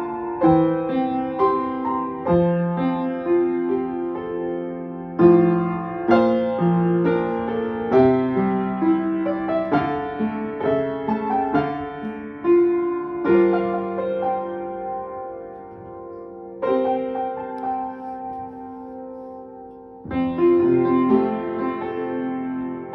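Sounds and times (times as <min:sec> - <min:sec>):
upright piano playing: 0:00.0 - 0:22.9.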